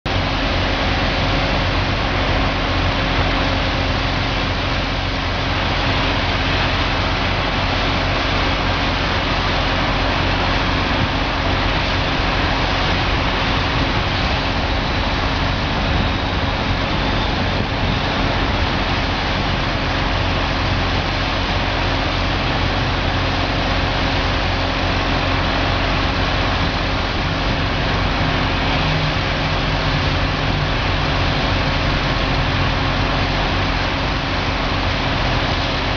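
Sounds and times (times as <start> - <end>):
pressure washer engine running: 0.1 - 35.9.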